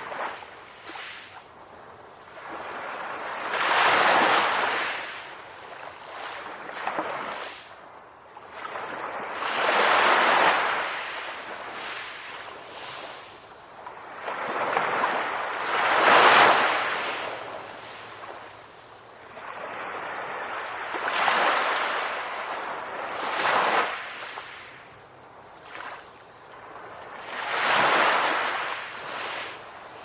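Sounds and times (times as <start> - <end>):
ocean waves washing ashore: 0.0 - 30.0.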